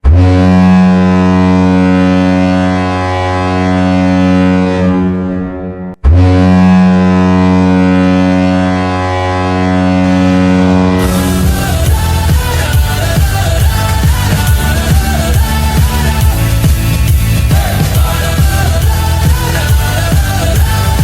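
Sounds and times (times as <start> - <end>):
deep goal horn blast: 0.0 - 21.0.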